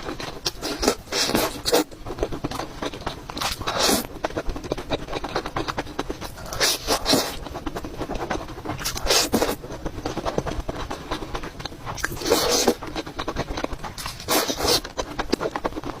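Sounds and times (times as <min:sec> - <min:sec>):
crunchy chewing: 0:00.0 - 0:16.0.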